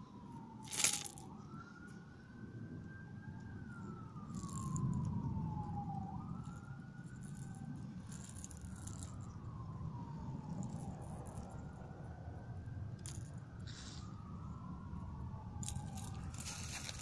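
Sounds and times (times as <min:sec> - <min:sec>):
low rumble of handling noise: 0:00.0 - 0:02.1, 0:02.8 - 0:17.0
emergency siren wailing: 0:00.0 - 0:17.0.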